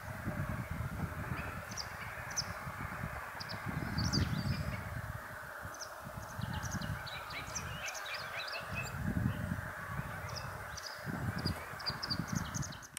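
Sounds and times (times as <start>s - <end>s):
low gusting rumble: 0.0s - 12.9s
small birds chirping: 0.0s - 12.9s
steady hiss: 0.0s - 12.9s.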